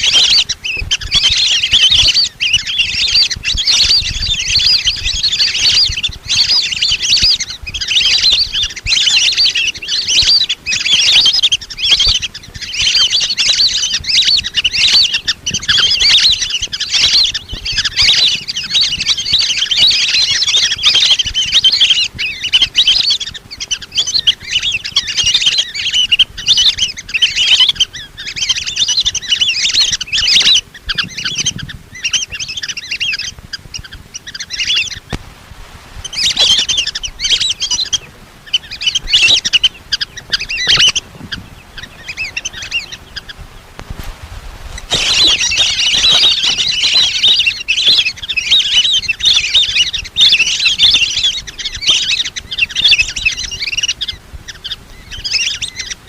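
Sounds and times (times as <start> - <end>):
ducks whistling: 0.0 - 35.2, 35.9 - 56.0.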